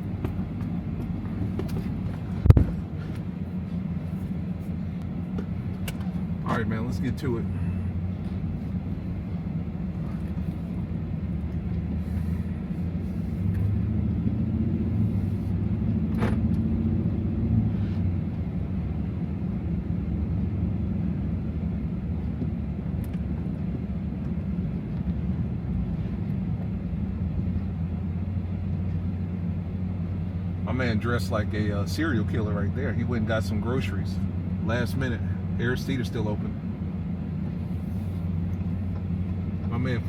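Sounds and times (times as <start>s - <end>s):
truck engine and road noise: 0.0s - 40.0s.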